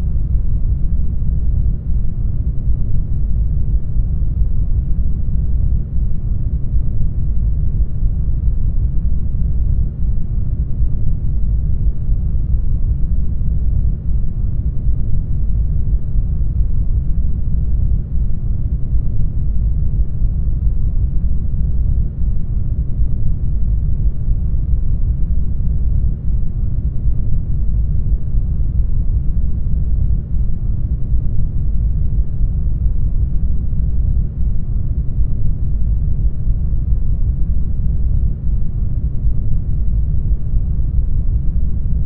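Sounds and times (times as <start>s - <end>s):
deep muffled rumble: 0.0s - 42.0s.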